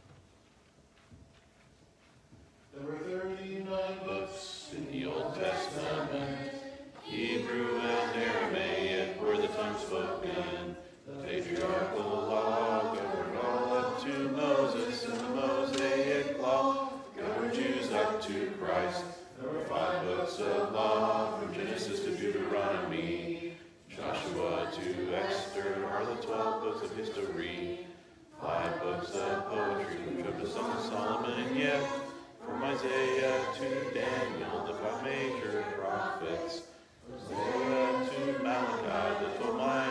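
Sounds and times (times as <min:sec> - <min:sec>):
group reciting in unison: 0:02.8 - 0:39.9.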